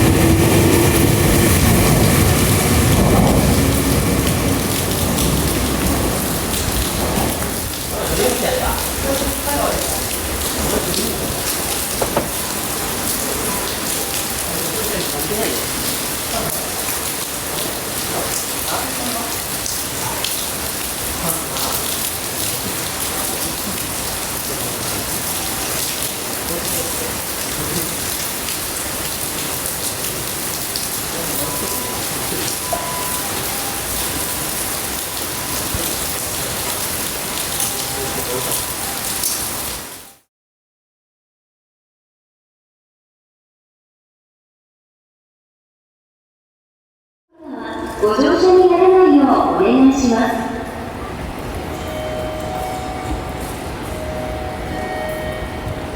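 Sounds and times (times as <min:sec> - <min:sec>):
heavy rain splashing: 0:00.0 - 0:40.2, 0:47.8 - 0:55.9.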